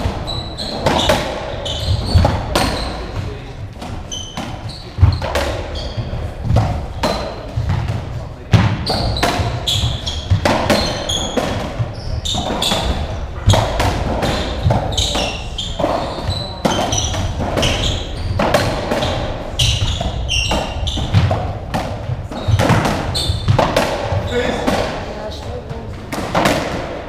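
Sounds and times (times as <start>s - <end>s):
ball struck by rackets: 0.0s - 25.0s, 26.1s - 27.0s
shoes squeaking on wooden floor: 0.0s - 26.6s.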